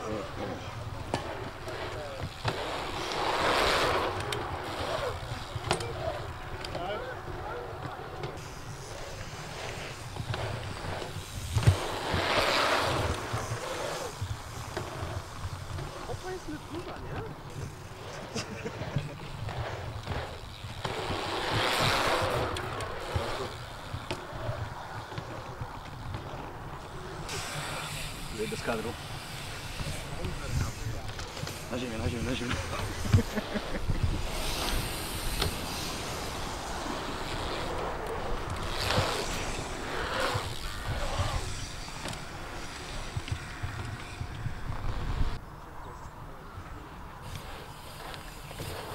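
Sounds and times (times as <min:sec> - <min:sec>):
bike rolling past whoosh: 0:00.0 - 0:45.4
wind buffeting microphone: 0:08.4 - 0:48.9.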